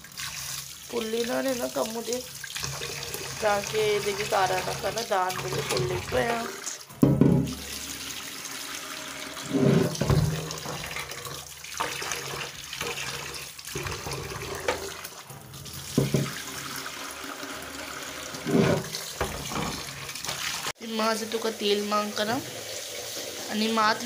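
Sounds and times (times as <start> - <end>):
water splashing into a sink: 0.0 - 20.8
tap water running into a pot: 0.0 - 24.0.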